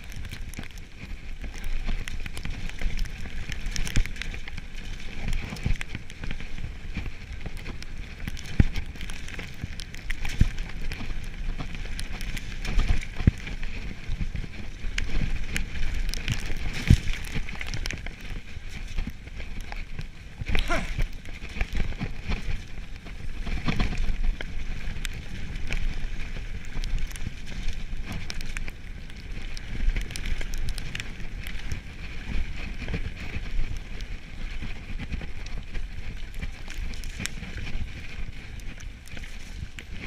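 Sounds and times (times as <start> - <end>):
tyre and wind rush: 0.0 - 40.0.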